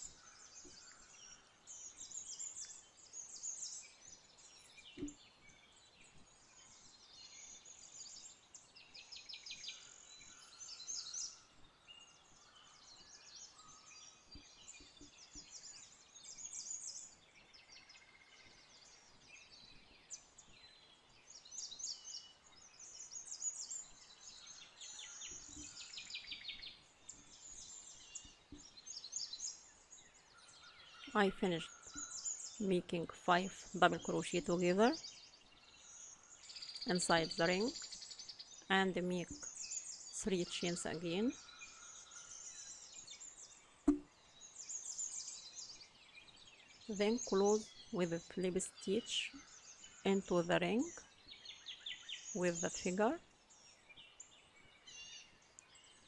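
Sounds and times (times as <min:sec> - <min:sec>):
faint birdsong: 0:00.0 - 0:56.0.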